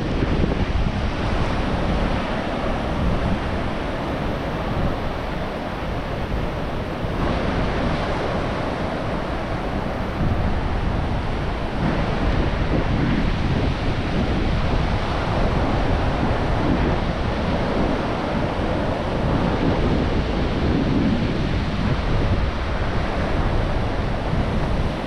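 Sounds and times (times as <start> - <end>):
ocean surf washing on beach: 0.0 - 25.0
wind rumbling on microphone: 0.0 - 25.0.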